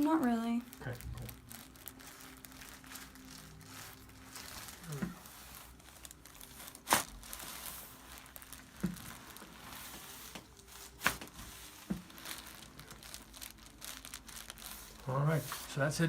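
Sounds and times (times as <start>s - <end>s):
crinkling rustle: 0.0s - 16.0s.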